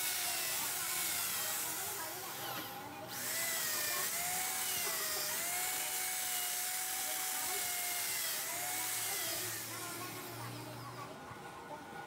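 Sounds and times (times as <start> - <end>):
power drill whining: 0.0 - 2.2, 3.1 - 10.8.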